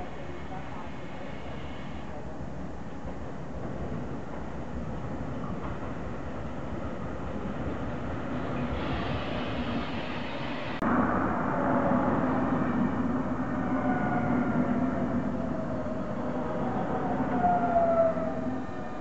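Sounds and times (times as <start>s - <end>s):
train passing with steady hum: 0.0s - 19.0s.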